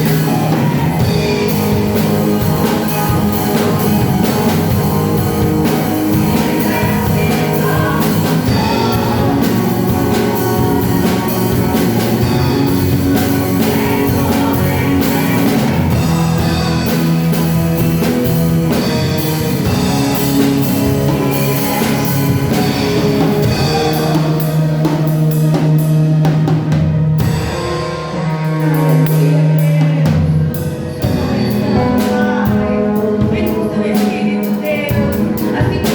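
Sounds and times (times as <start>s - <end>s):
person singing: 0.0s - 26.5s, 28.1s - 35.9s
drum kit: 0.0s - 35.9s
guitar: 0.0s - 35.9s
live band playing: 0.0s - 35.9s.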